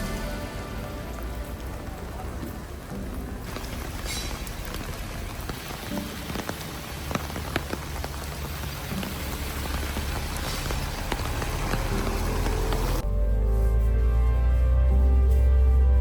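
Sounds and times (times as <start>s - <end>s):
raindrops hitting surfaces: 0.0s - 13.0s
steady rain falling: 0.0s - 13.0s
faint music: 0.0s - 16.0s.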